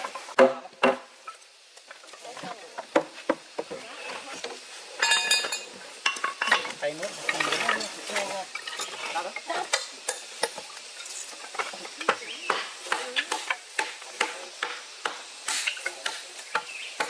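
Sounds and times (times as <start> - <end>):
light steady hiss: 0.0 - 17.0.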